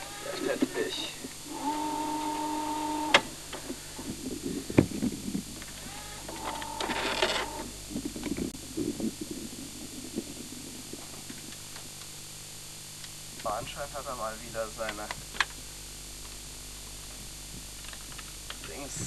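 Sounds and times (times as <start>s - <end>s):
mains hum: 0.0s - 19.0s
tape hiss: 0.0s - 19.0s.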